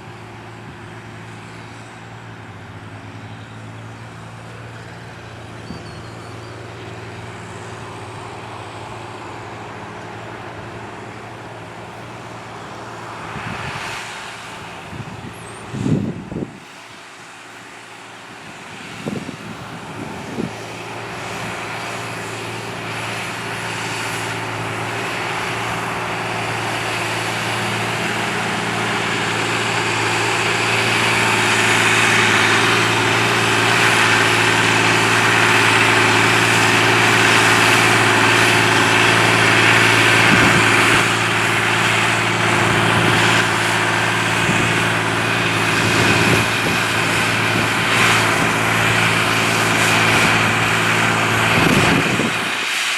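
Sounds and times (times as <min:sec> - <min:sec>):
tractor diesel engine droning: 0:00.0 - 0:52.9.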